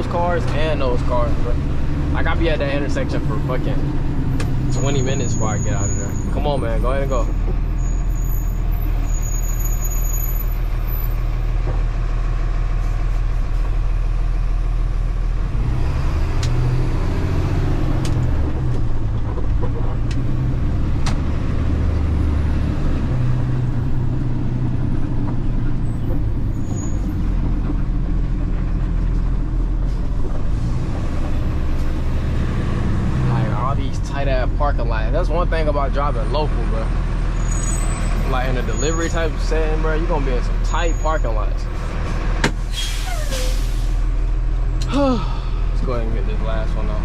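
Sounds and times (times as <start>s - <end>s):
truck engine idling and pulling away: 0.0s - 47.0s.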